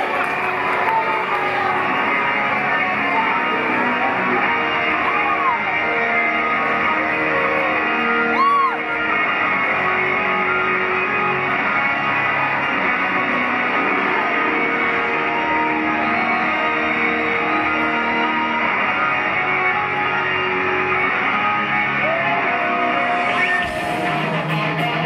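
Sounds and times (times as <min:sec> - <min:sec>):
electric guitars sustained notes: 0:00.0 - 0:25.0.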